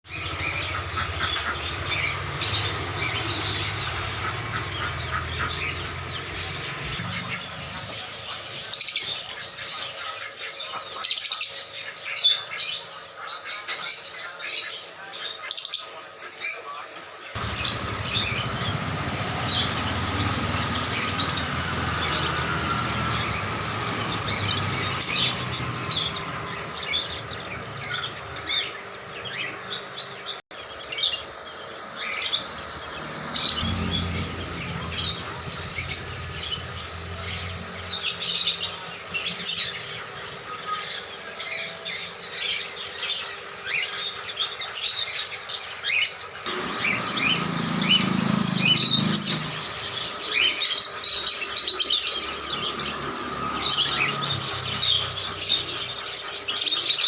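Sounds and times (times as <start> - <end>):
flock of birds chirping: 0.0 - 57.0.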